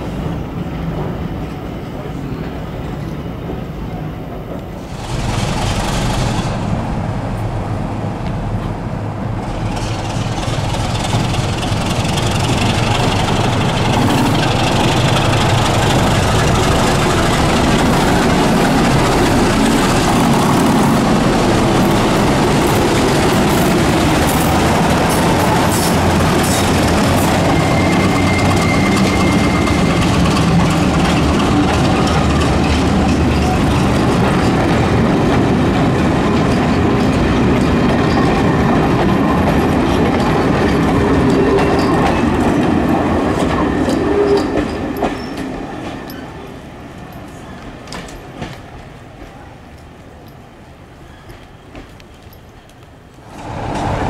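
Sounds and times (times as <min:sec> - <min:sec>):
train wheels clickety-clack: 0:00.0 - 0:07.5, 0:08.2 - 0:50.5, 0:51.2 - 0:54.0
diesel locomotive engine: 0:00.0 - 0:54.0.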